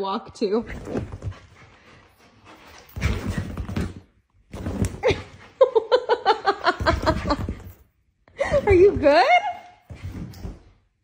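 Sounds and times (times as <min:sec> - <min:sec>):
dog paws scrambling on floor: 0:00.0 - 0:11.0.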